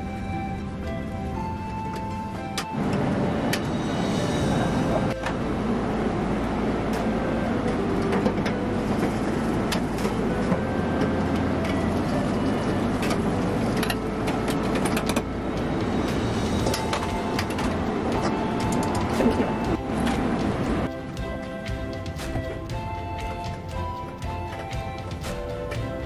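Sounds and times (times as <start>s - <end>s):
gas wok stove roaring: 0.8s - 24.6s.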